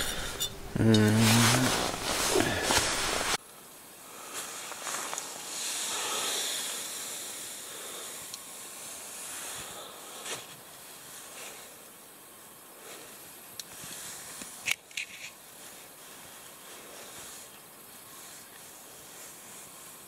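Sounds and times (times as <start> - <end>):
tent fabric rustling: 0.8 - 3.4, 4.2 - 11.9, 12.8 - 14.4, 15.1 - 20.0.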